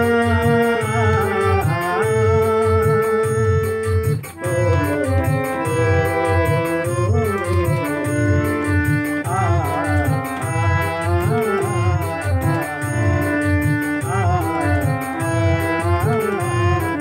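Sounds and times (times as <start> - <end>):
electronic keyboard organ melody: 0.0 - 17.0
steady low beat: 0.0 - 17.0.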